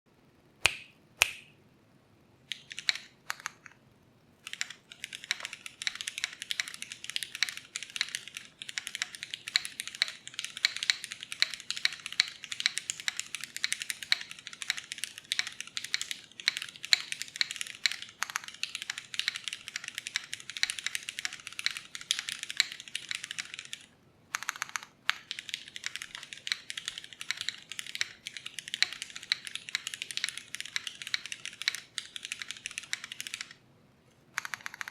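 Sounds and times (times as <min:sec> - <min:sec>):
mechanical keyboard typing: 0:02.5 - 0:03.8, 0:04.4 - 0:33.6, 0:34.4 - 0:34.9.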